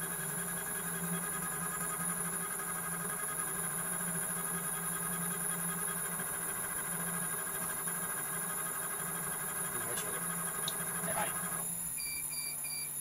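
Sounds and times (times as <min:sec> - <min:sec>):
laser engraver humming with whine: 0:00.0 - 0:13.0.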